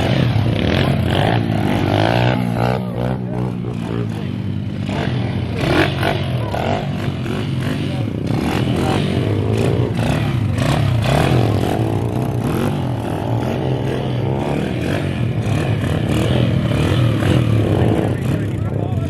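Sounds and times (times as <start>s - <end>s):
pit bike engines revving: 0.0s - 19.0s.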